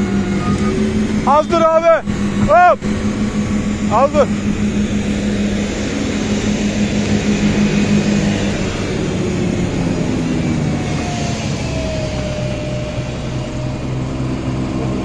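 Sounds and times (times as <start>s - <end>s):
faint sliding whine: 0.0s - 15.0s
farm diesel engine running: 0.0s - 15.0s.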